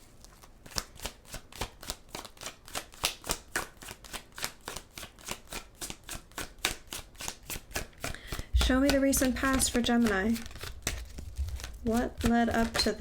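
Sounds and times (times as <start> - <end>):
cards being shuffled: 0.2 - 13.0.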